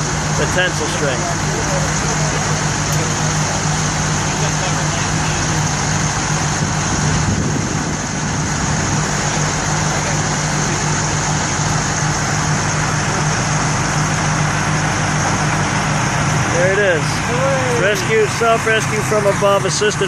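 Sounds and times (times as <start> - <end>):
roadside noise hiss: 0.0 - 20.0
vehicle engine idling: 0.0 - 20.0.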